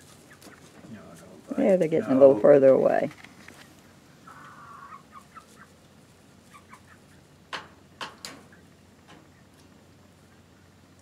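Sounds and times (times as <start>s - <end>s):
young chickens calling: 0.0s - 11.0s.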